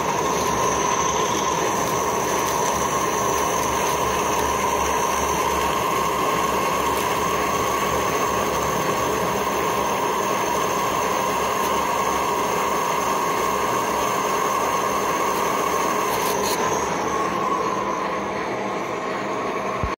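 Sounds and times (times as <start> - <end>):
metal lathe whining: 0.0 - 19.9.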